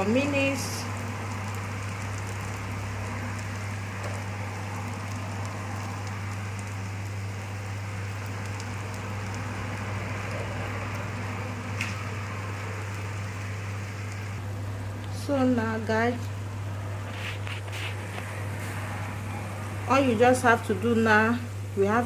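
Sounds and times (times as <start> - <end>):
omelette sizzling in a frying pan: 0.0 - 22.0.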